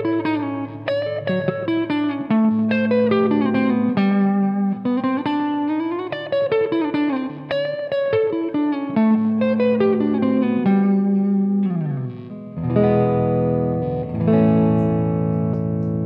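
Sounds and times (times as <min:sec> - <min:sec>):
electric guitar notes and chords: 0:00.0 - 0:16.0.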